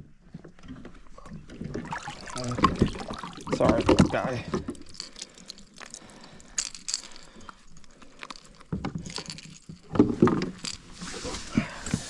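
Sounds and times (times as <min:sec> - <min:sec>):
clicks and rattles handling fish: 0:00.0 - 0:12.0.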